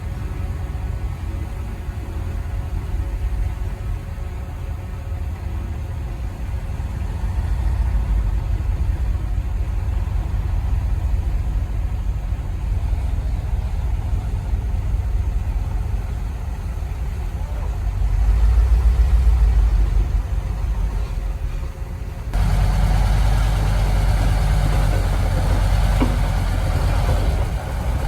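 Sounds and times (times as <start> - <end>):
heavy machinery engine rumbling: 0.0 - 28.0.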